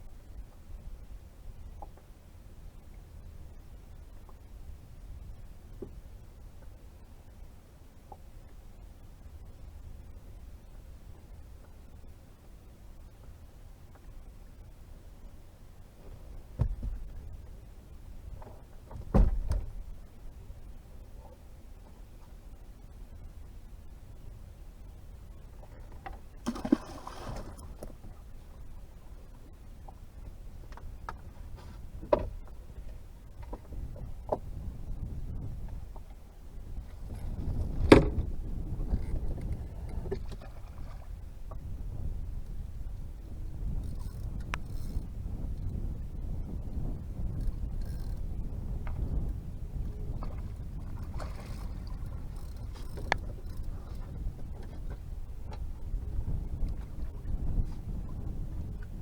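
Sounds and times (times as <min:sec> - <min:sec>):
wind and water rumble: 0:00.0 - 0:59.0.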